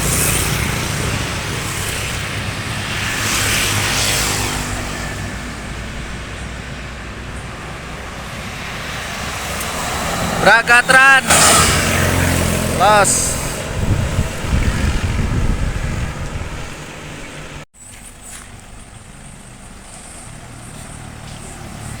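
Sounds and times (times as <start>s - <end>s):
bus driving past: 0.0s - 22.0s.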